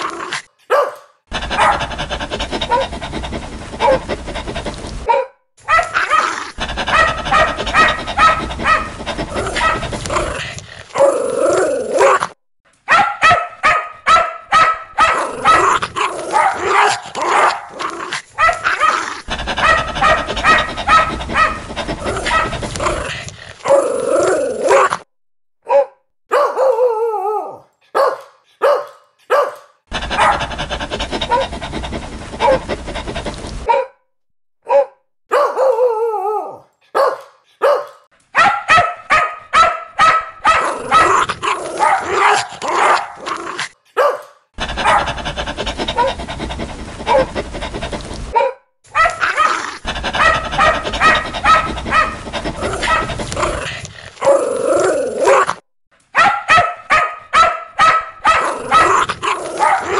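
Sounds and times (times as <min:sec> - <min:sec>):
dogs barking aggressively: 0:00.0 - 0:25.0, 0:27.9 - 0:33.9, 0:36.9 - 0:59.9.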